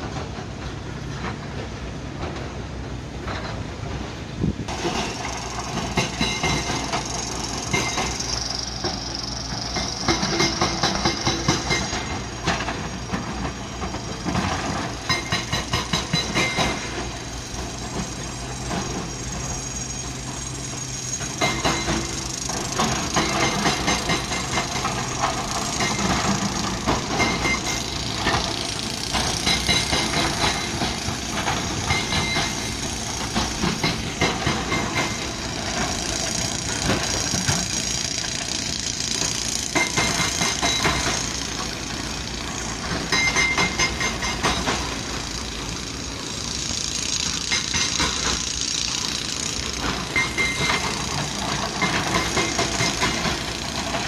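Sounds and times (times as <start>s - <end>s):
excavator engines under load: 0.0s - 54.0s.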